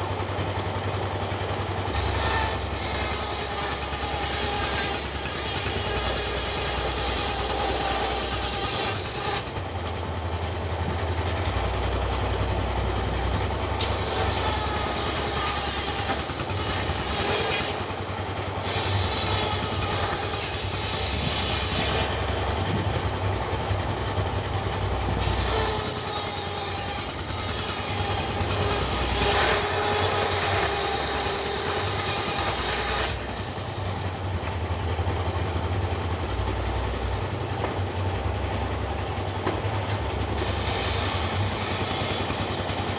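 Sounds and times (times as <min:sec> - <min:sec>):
machinery humming and rattling: 0:00.0 - 0:42.9.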